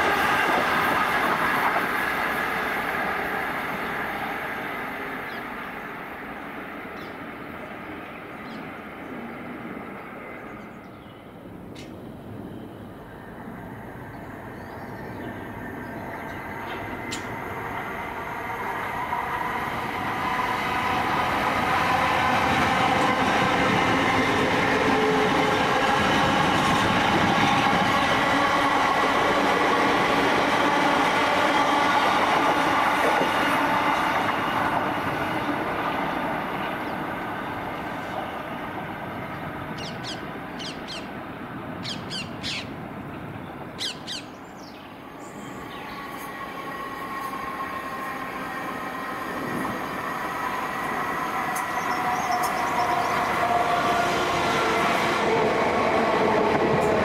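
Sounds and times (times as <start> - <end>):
train running through station: 0.0 - 57.0.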